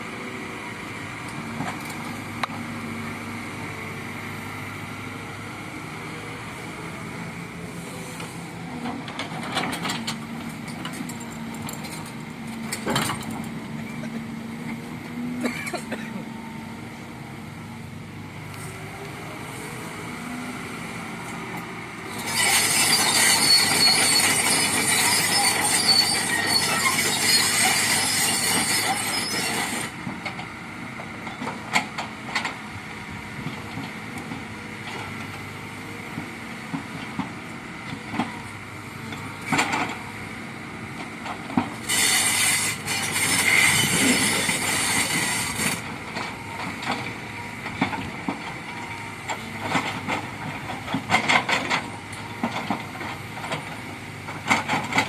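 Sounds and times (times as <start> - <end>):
excavator mechanical rumble: 0.0 - 55.0.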